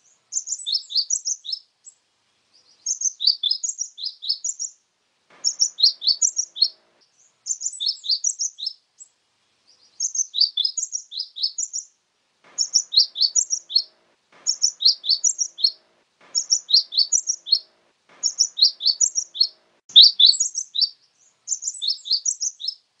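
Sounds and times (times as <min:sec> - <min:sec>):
bird singing high-pitched notes: 0:00.3 - 0:01.7, 0:02.8 - 0:04.8, 0:05.4 - 0:06.9, 0:07.5 - 0:08.8, 0:10.0 - 0:11.9, 0:12.5 - 0:22.8.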